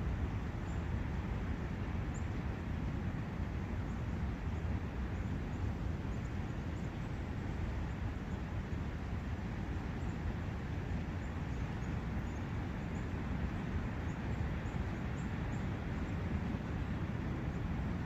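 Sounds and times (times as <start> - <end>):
wind in trees: 0.0 - 18.0.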